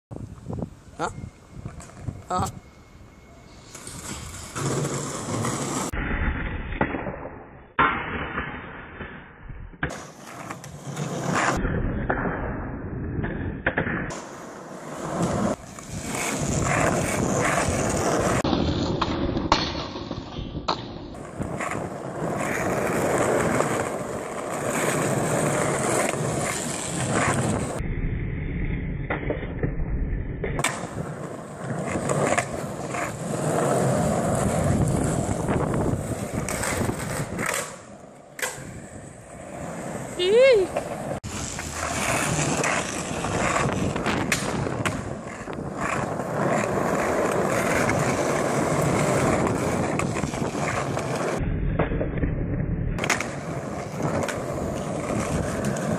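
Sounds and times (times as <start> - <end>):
skateboard wheels rolling on concrete: 0.1 - 55.9
skateboard knocking and slapping: 3.7 - 6.0, 9.7 - 12.5, 13.2 - 27.8, 30.4 - 55.9.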